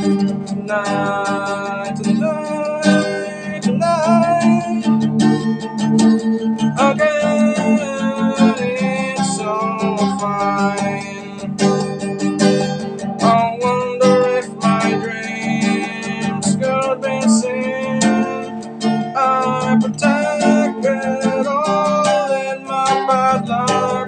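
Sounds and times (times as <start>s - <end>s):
man singing: 0.0s - 5.4s, 6.6s - 12.2s, 13.0s - 24.0s
acoustic guitar strumming: 0.0s - 24.0s.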